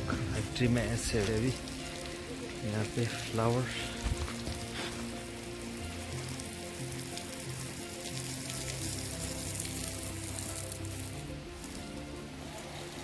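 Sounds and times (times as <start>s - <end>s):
water spraying from hose: 0.0s - 13.0s.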